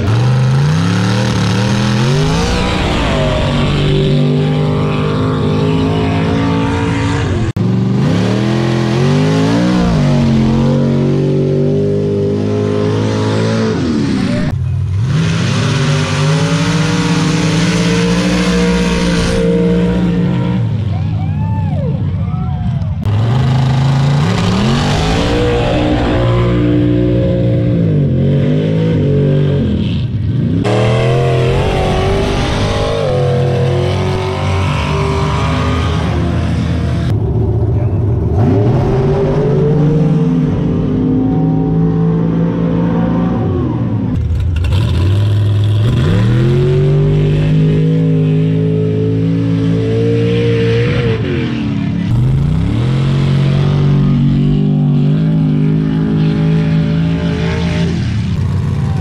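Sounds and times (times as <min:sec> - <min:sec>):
truck engine revving hard: 0:00.0 - 0:21.0, 0:23.0 - 0:59.0.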